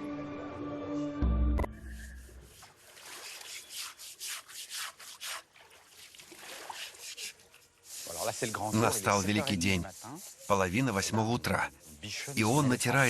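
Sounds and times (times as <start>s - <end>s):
rough scrubbing strokes on hide: 1.8s - 13.0s.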